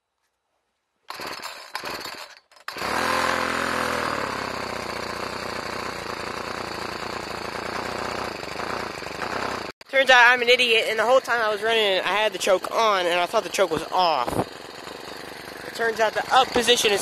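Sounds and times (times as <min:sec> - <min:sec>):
two-stroke engine starting: 0:01.1 - 0:09.7, 0:10.4 - 0:17.0.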